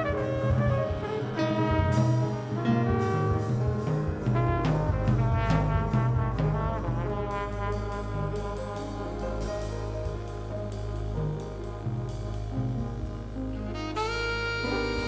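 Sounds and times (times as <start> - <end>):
bass line: 0.0 - 15.0
brass horn melody: 0.0 - 15.0
drums and cymbals: 0.0 - 15.0.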